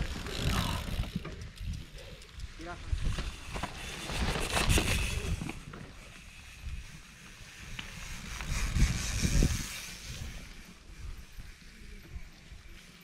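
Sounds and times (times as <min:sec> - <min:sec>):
wind rumbling on microphone: 0:00.0 - 0:12.8
bike tyres hissing over dirt: 0:01.9 - 0:13.0.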